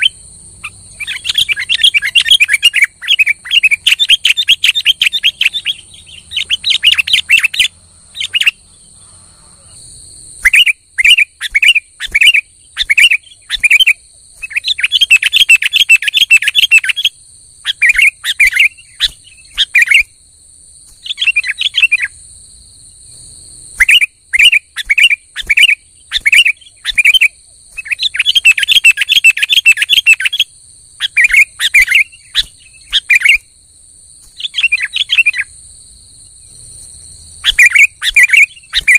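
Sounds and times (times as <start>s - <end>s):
bird chirping song: 0.0s - 20.2s, 20.8s - 33.5s, 34.2s - 38.9s.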